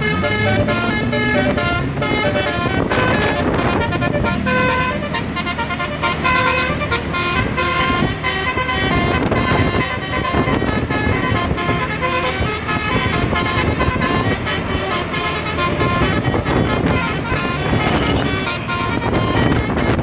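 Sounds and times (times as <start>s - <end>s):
bus engine running: 0.0s - 20.0s
multi-tone air horn melody: 0.0s - 20.0s.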